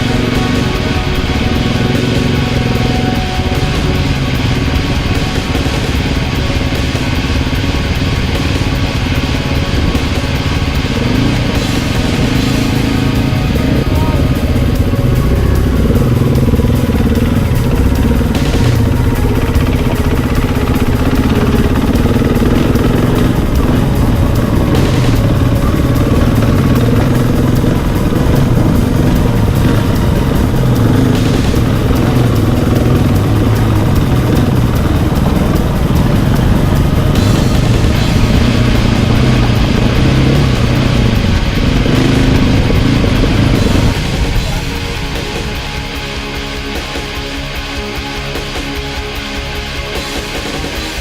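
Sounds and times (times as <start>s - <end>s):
low rumble: 0.0s - 49.7s
dirt bike engine revving: 0.0s - 51.0s.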